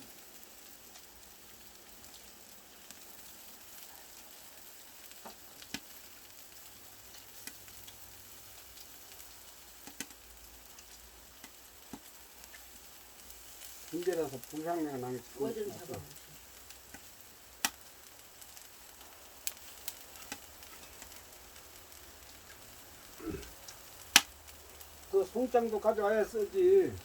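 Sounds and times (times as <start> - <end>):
meat sizzling on a grill: 0.0 - 27.0.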